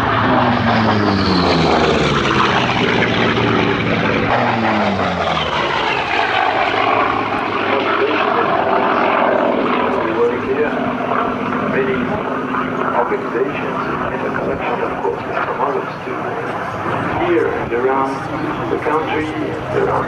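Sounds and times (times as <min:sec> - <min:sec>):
propeller planes flying past: 0:00.0 - 0:20.0.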